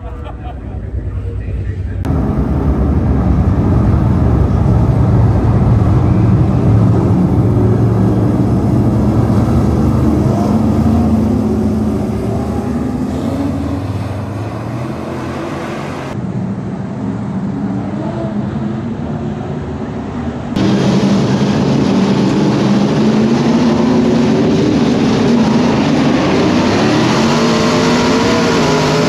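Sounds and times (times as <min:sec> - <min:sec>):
race car engines: 0:00.0 - 0:29.0.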